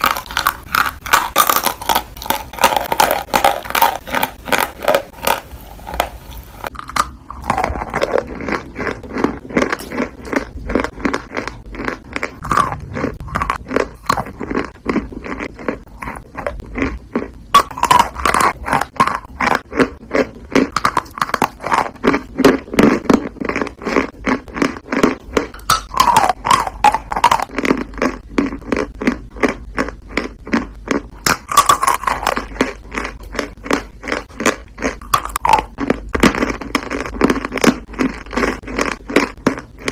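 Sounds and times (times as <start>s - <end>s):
chalk crunching being chewed: 0.0s - 39.9s.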